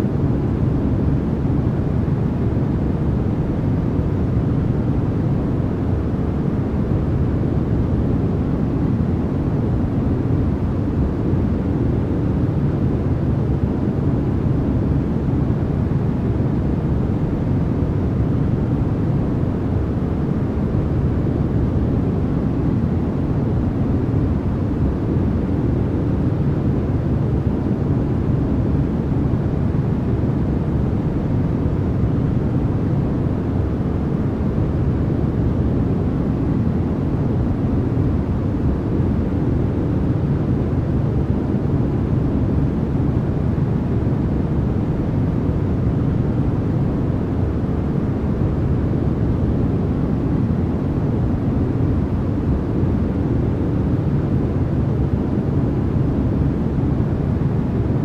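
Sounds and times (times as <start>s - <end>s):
deep white noise rumble: 0.0s - 58.0s.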